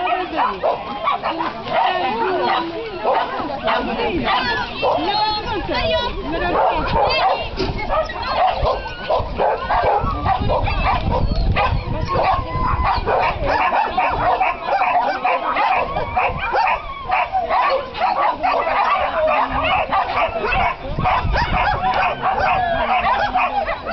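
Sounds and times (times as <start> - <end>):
dogs barking and yipping: 0.0 - 23.9.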